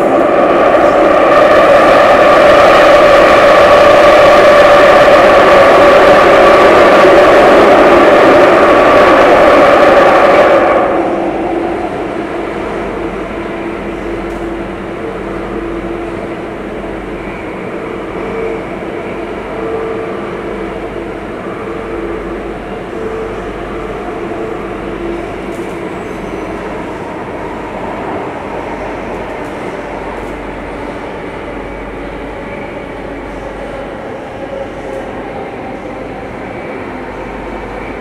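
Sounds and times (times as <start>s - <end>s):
train wheels rumbling: 0.0s - 38.0s.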